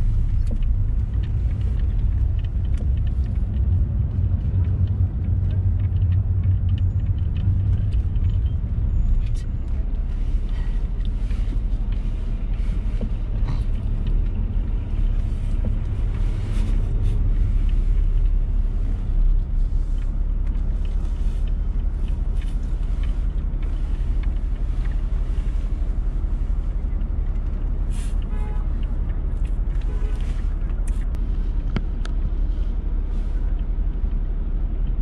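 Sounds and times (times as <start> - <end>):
car engine and road rumble: 0.0 - 35.0
faint street sounds: 0.0 - 35.0.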